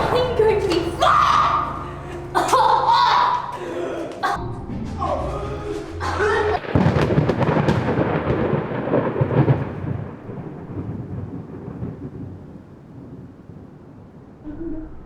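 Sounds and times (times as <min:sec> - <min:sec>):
thunderclap rumbling: 0:00.0 - 0:15.0.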